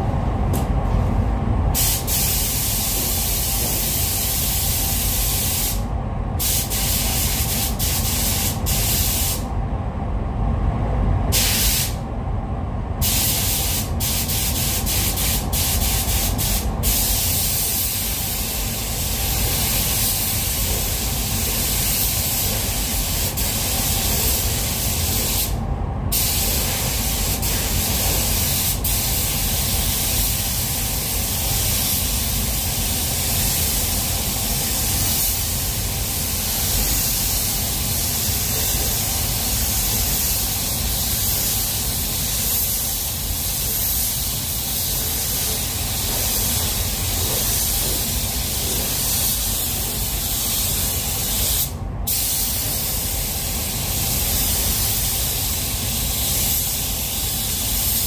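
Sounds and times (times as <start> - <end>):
paint spray gun hissing: 1.8 - 5.8, 6.4 - 9.4, 13.0 - 58.0.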